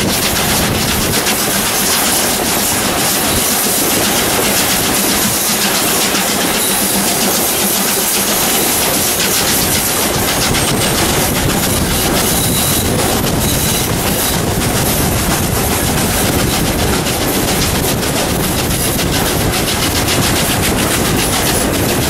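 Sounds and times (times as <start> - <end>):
steam hissing: 0.0 - 22.0
steam train rumbling: 0.0 - 22.0
wheels clattering over rail joints: 0.0 - 22.0.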